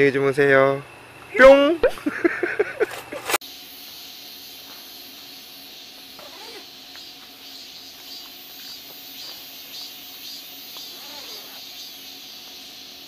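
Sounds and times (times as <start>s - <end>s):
night insects chirping: 0.0s - 13.0s
steady hiss: 0.0s - 13.0s.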